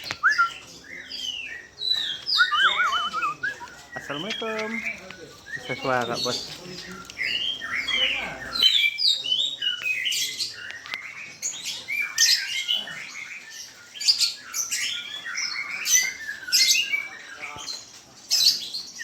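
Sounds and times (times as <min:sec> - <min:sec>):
caged birds chirping and whistling: 0:00.0 - 0:19.0.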